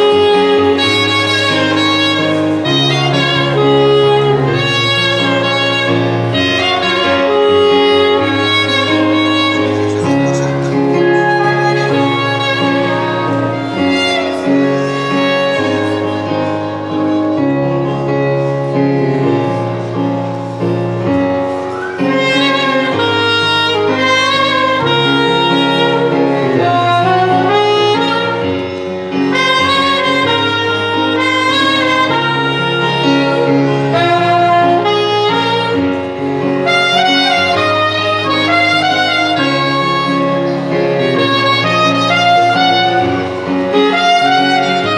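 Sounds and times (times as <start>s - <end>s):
instrumental melody over bass: 0.0s - 44.9s.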